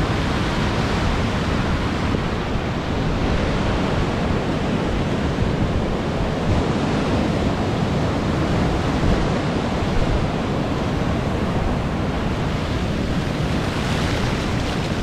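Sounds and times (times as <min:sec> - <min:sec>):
surf breaking and washing: 0:00.0 - 0:15.0
wind buffeting microphone: 0:00.0 - 0:15.0.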